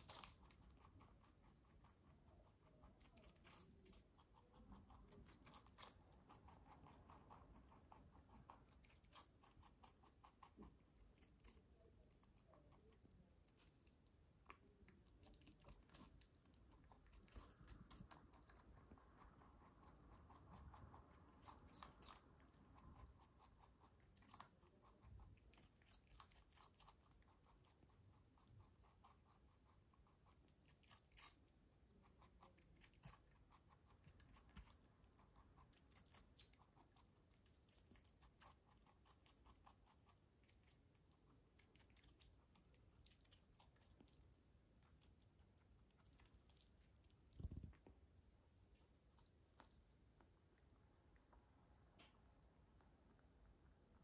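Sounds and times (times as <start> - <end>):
rabbit crunching cucumber: 0.0 - 54.0.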